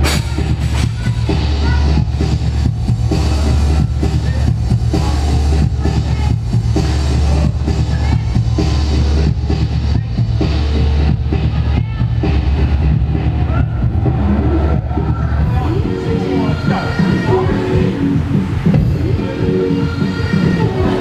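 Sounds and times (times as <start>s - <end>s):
loud music with heavy bass: 0.0s - 21.0s.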